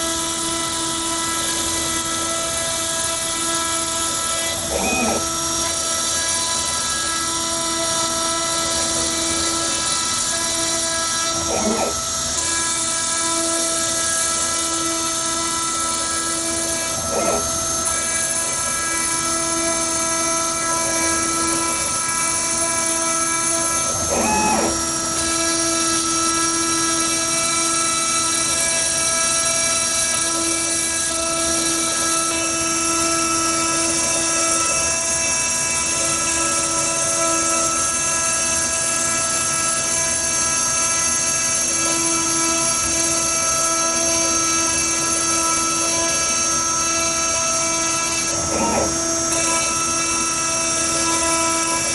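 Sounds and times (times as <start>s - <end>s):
spindle motor whine: 0.0s - 51.9s.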